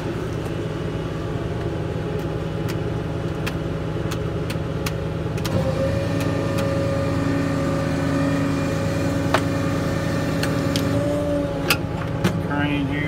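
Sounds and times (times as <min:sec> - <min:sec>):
crane pump whine: 0:00.0 - 0:13.0
diesel truck engine running: 0:00.0 - 0:13.0.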